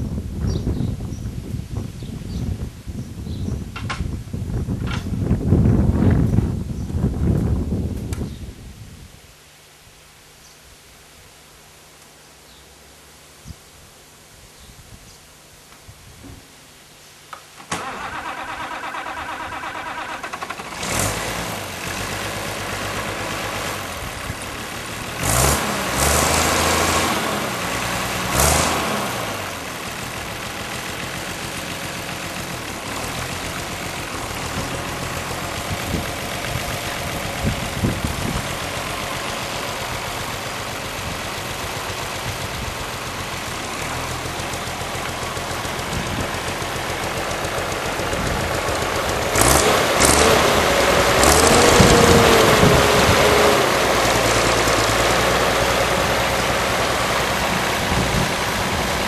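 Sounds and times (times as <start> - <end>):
diesel tractor engine running: 0.0 - 8.5, 17.3 - 59.0.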